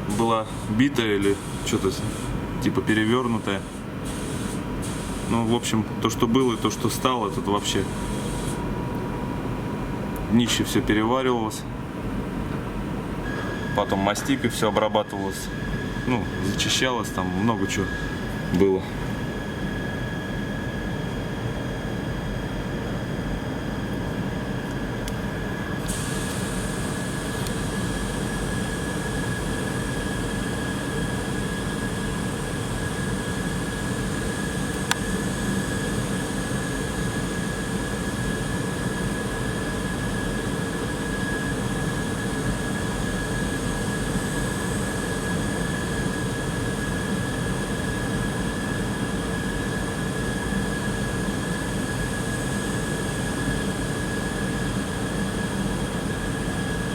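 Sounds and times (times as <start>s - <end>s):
ventilation fans roaring: 0.0s - 56.9s.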